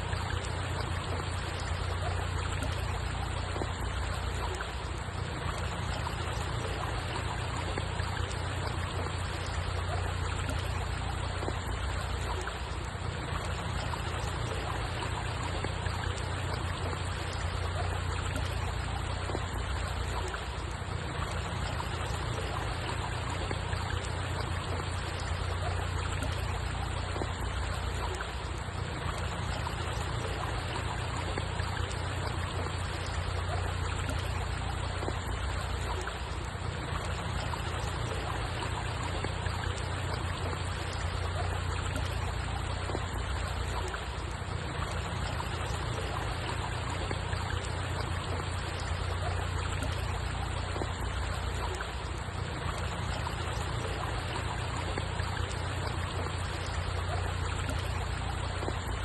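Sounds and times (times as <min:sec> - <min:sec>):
water trickling and flowing: 0:00.0 - 0:59.0.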